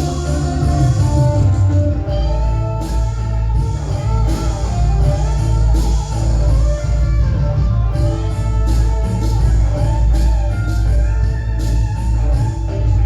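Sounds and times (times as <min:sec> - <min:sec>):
heavy bass line: 0:00.0 - 0:13.0
rock guitar: 0:00.0 - 0:13.0.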